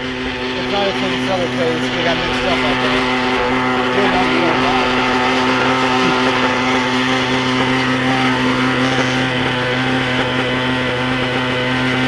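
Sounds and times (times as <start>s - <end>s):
model helicopter engine buzzing: 0.0s - 12.0s.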